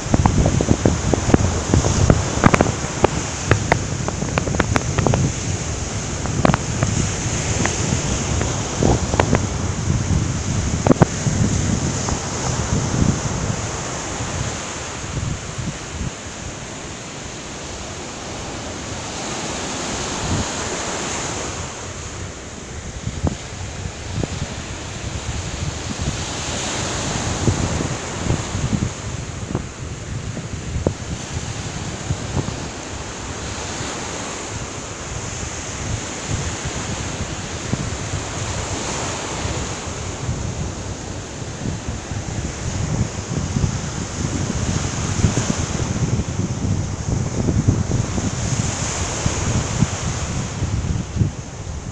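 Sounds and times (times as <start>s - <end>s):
waves breaking on beach: 0.0s - 51.9s
wind rumble on microphone: 0.0s - 51.9s.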